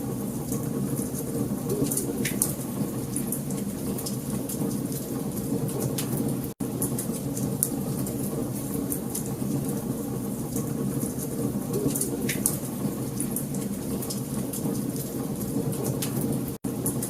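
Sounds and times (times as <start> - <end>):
wood fire crackling and popping: 0.1 - 17.0.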